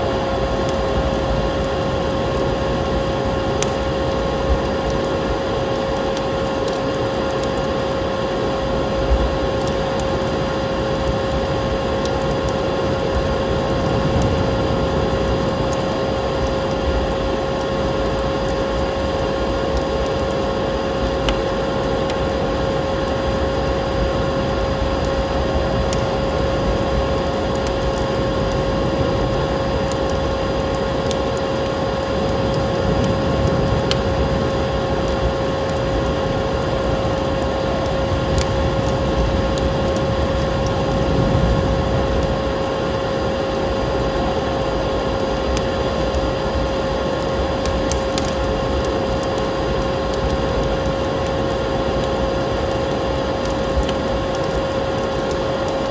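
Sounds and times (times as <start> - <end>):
steady rushing noise: 0.0 - 55.9
wood fire crackling: 0.0 - 55.9.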